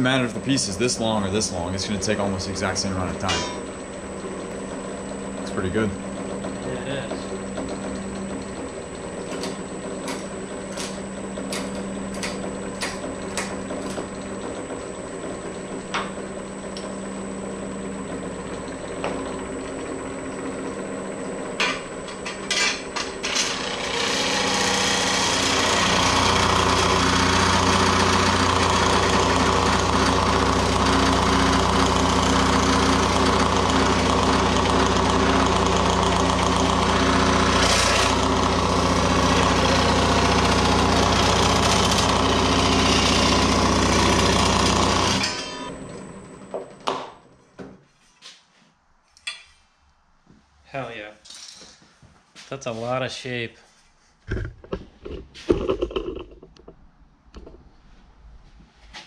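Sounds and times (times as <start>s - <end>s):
sheet-metal machine running: 0.0s - 47.3s.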